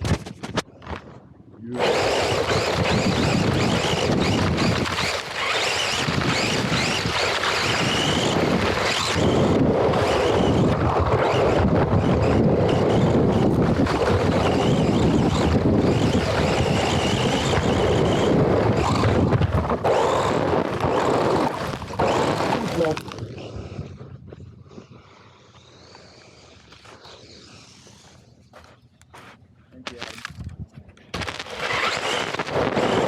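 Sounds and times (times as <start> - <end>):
wind on microphone: 0.0 - 28.2, 30.2 - 33.0
toy car motor whining: 1.8 - 28.7, 31.2 - 33.0.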